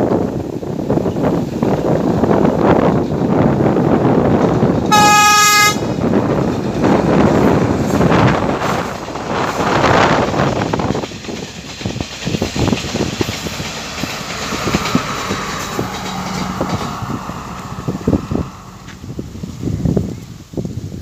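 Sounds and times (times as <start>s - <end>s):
train engine hum: 0.0s - 21.0s
train rushing past: 0.0s - 21.0s
wheels clicking over rail joints: 0.0s - 21.0s.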